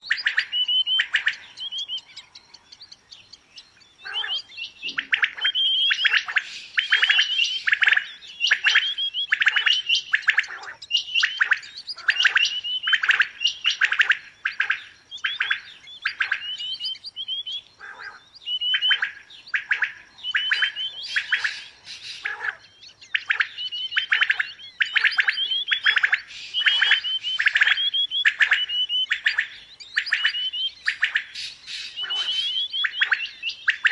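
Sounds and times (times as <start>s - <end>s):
quail calling: 0.0s - 3.1s, 3.8s - 33.9s.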